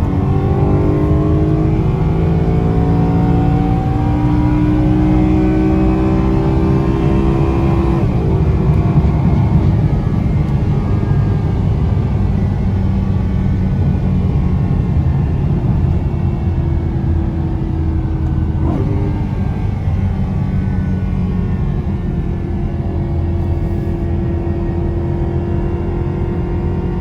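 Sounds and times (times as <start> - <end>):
road noise: 0.0 - 25.2
car engine low drone: 0.0 - 27.0.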